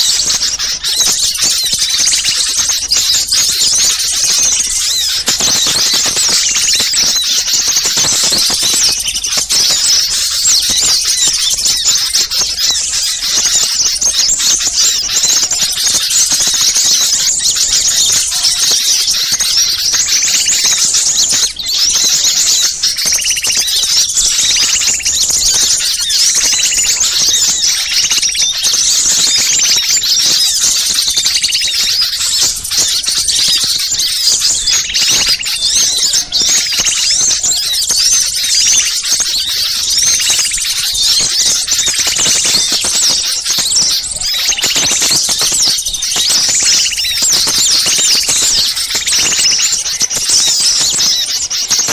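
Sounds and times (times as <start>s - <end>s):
small birds chirping and twittering: 0.0s - 51.9s.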